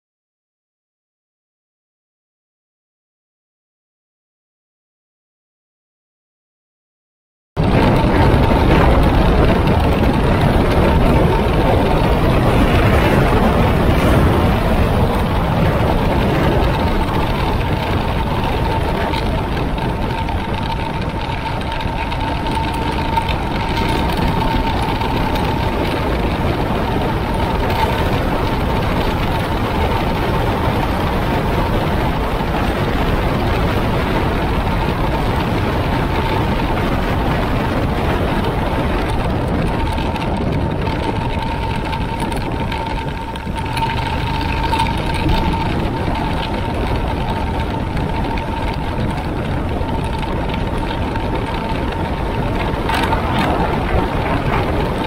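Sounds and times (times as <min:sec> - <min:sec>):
motorcycle engine running: 0:07.6 - 0:55.0
steady high whine: 0:07.6 - 0:55.0
wind rush: 0:07.6 - 0:55.0.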